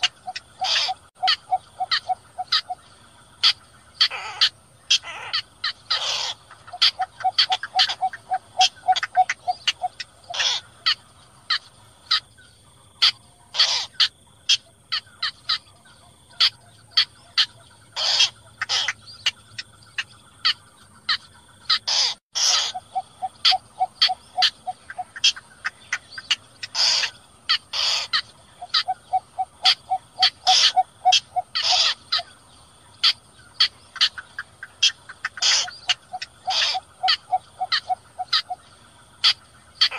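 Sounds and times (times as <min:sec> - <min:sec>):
short sharp bird calls: 0:00.0 - 0:02.8, 0:03.4 - 0:12.2, 0:16.3 - 0:32.4, 0:33.0 - 0:38.6.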